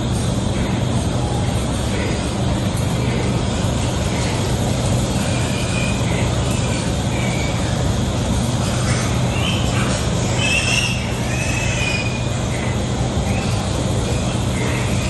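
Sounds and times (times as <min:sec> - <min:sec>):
machine drone with low hum: 0:00.0 - 0:15.0.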